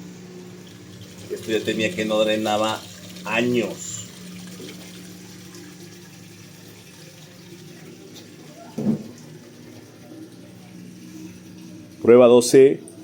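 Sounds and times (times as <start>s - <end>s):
drain pump humming: 0.0s - 13.0s
water flowing through drain hose: 0.3s - 13.0s.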